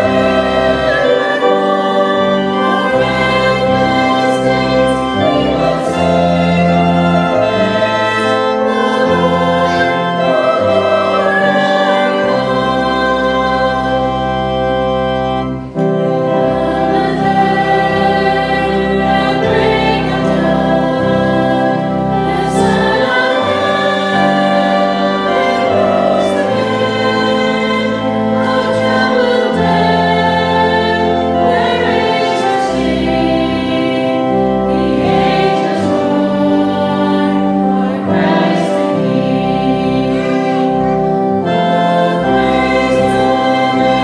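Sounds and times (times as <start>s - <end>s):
sustained instrumental accompaniment: 0.0s - 44.0s
women singing a hymn: 0.0s - 44.0s.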